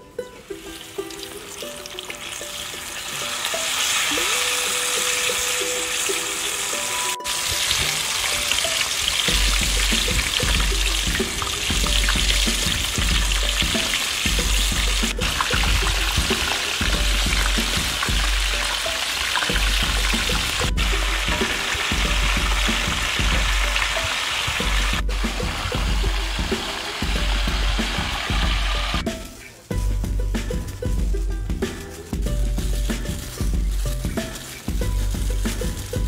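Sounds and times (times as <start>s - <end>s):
faint plucked-string music: 0.0s - 36.0s
bananas sizzling in hot oil: 0.5s - 29.6s.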